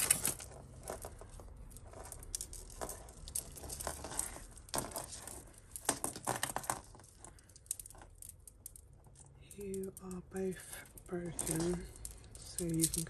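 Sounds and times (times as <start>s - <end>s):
jewellery chains clinking and rattling: 0.0s - 13.0s.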